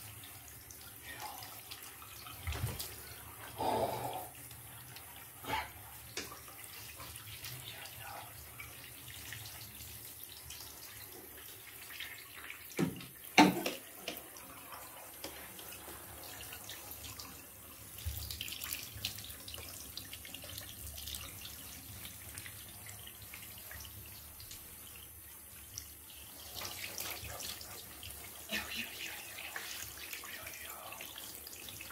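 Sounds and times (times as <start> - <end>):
shower water running into bathtub: 0.0 - 31.9.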